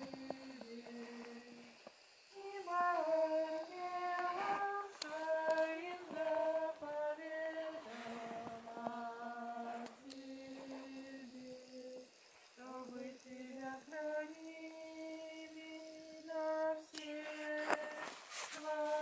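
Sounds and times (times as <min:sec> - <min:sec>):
person singing long held notes: 0:00.0 - 0:19.0.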